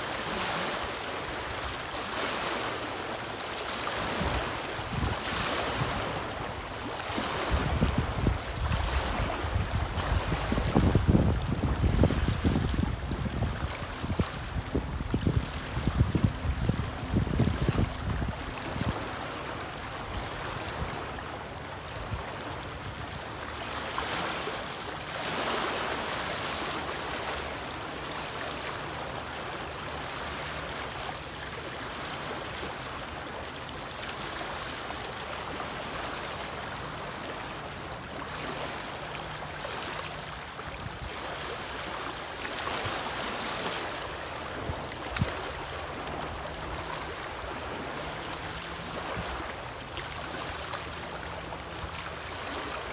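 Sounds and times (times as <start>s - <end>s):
waves lapping on rocky shore: 0.0s - 52.9s.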